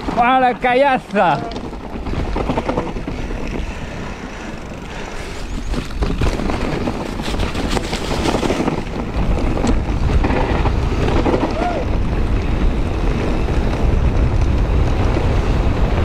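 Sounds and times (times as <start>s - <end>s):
bike clattering and rattling: 0.0s - 16.0s
bike tyres rolling: 0.0s - 16.0s
wind buffeting microphone: 0.0s - 16.0s.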